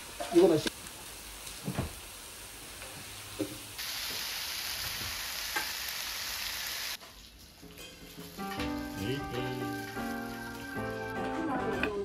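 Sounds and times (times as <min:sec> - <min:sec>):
meat and vegetables sizzling: 0:00.0 - 0:12.0.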